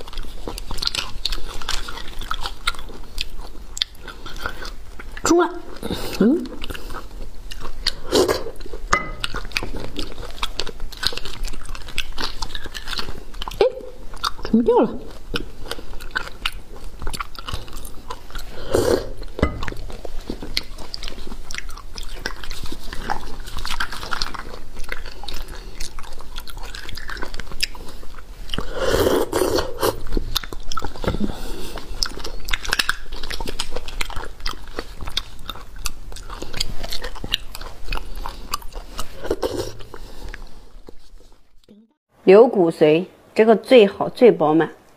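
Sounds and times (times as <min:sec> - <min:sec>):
wet chewing and sucking: 0:00.0 - 0:42.0.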